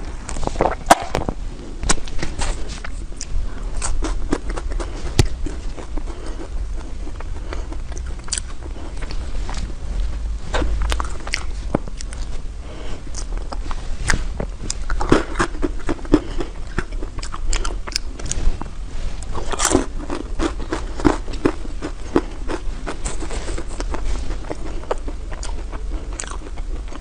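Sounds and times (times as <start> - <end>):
food chewing: 1.9 - 9.7, 10.5 - 12.4, 13.1 - 27.0.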